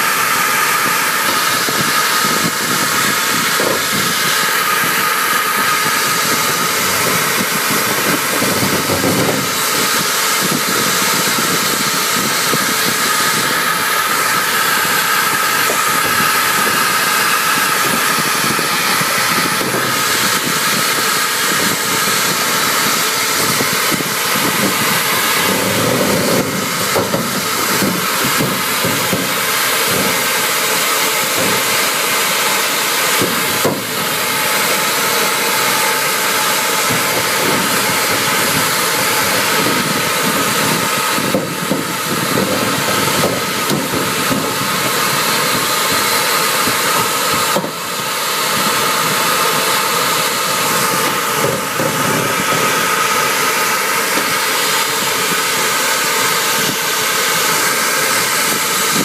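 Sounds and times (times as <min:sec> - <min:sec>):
vacuum sucking air in metal duct: 0:00.0 - 0:59.0.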